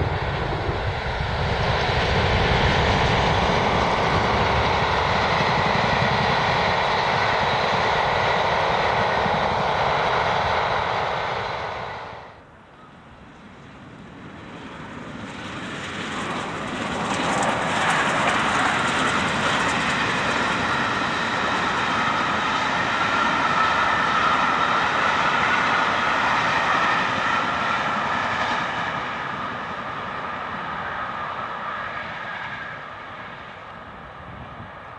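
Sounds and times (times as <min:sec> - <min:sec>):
train passing at speed: 0:00.0 - 0:34.9.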